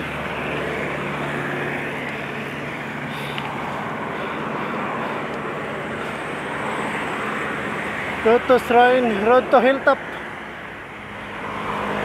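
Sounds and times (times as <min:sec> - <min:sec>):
highway traffic hum: 0:00.0 - 0:12.0.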